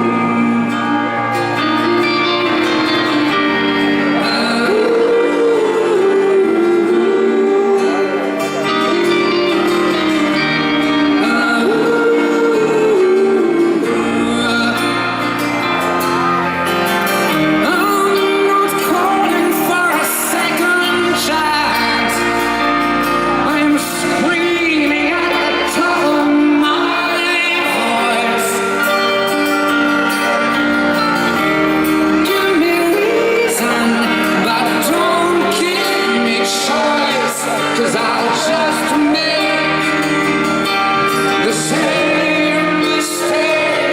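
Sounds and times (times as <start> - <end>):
band playing pop-rock ballad: 0.0 - 43.9
person singing: 0.0 - 43.9.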